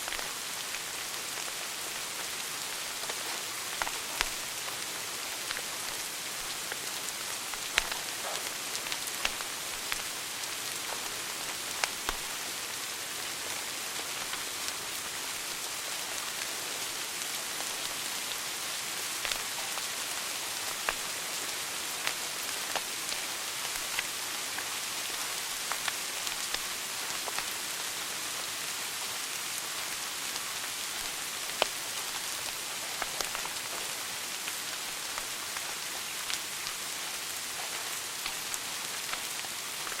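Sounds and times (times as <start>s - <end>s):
fireplace fire crackling: 0.0s - 40.0s.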